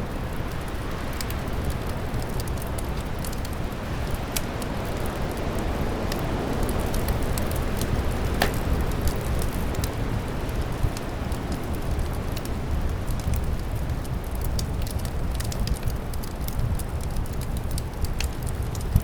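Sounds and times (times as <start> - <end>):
wind rumbling: 0.0 - 19.0
wood fire crackling and popping: 0.0 - 19.0.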